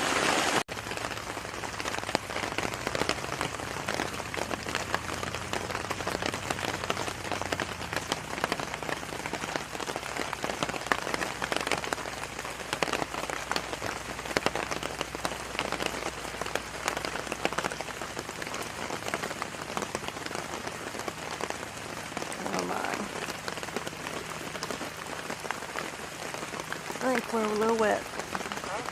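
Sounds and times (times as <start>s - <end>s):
heavy rain on a tent: 0.0s - 28.9s.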